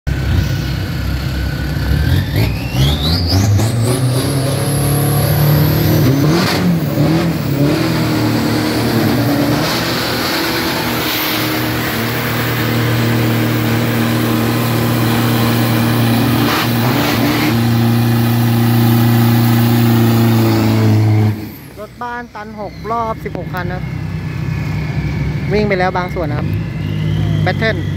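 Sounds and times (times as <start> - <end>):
truck engines revving: 0.1 - 27.9
high whine rising in pitch: 2.4 - 27.9.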